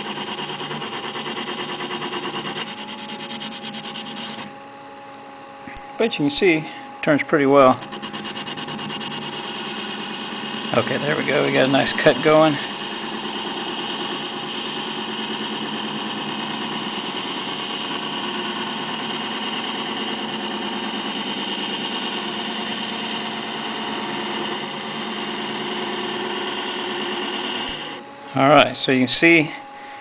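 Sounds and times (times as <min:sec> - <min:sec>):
cutting tool cutting aluminum: 0:00.0 - 0:05.2, 0:07.6 - 0:28.1
lathe running: 0:00.0 - 0:30.0.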